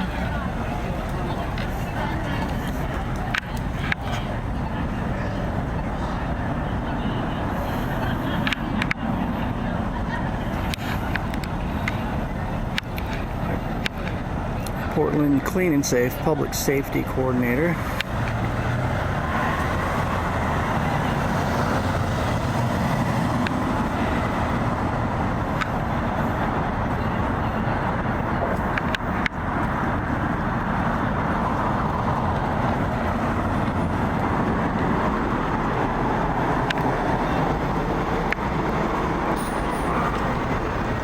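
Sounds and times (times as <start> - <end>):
city street traffic: 0.0 - 41.0.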